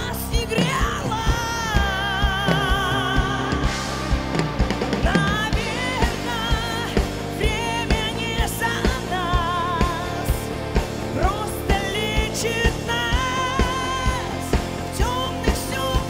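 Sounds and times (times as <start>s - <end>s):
pop-rock band playing: 0.0s - 16.0s
steady drum beat: 0.0s - 16.0s
woman singing with vibrato: 0.0s - 16.0s.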